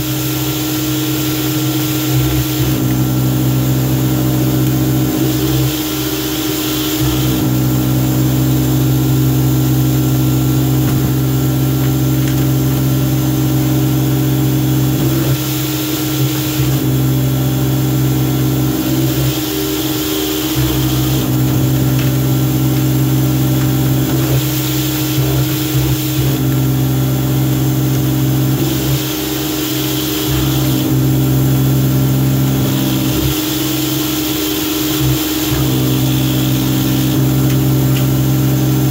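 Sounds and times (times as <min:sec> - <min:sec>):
pressure washer motor humming: 0:00.0 - 0:38.9
spray jets hissing: 0:00.0 - 0:38.9.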